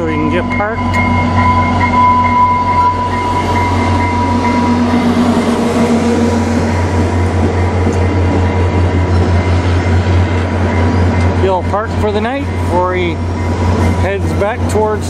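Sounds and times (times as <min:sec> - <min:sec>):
locomotive whine: 0:00.0 - 0:15.0
regular beat of train wheels: 0:00.0 - 0:15.0
train rumbling past: 0:00.0 - 0:15.0.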